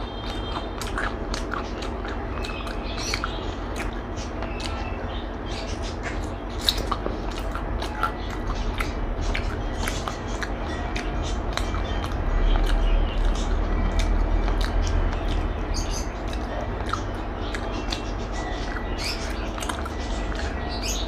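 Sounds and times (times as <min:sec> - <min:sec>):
chewing and biting food: 0:00.0 - 0:21.0
mouth clicks and smacks: 0:00.0 - 0:21.0
steady low hum: 0:00.0 - 0:21.0.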